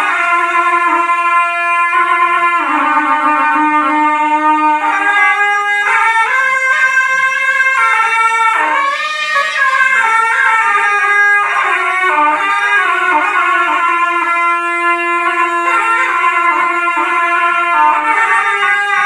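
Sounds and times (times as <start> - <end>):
double-reed shawms playing melody: 0.0 - 19.0.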